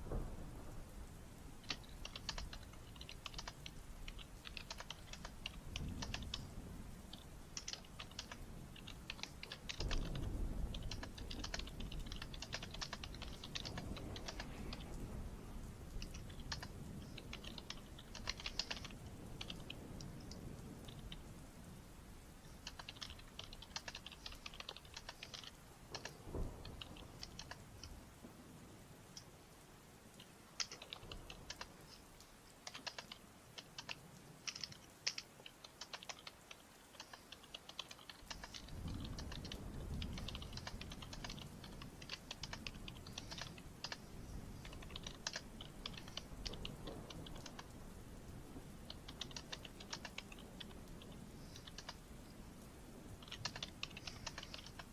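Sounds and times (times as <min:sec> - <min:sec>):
typing on computer keyboard: 0:01.6 - 0:06.5, 0:07.1 - 0:15.0, 0:15.9 - 0:21.4, 0:22.4 - 0:27.9, 0:30.2 - 0:31.8, 0:32.6 - 0:47.9, 0:48.8 - 0:52.1, 0:53.1 - 0:54.9.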